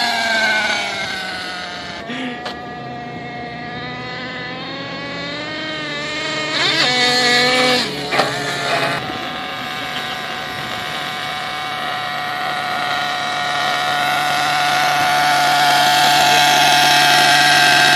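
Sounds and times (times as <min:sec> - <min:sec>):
rc truck engine idling: 0:00.0 - 0:17.9.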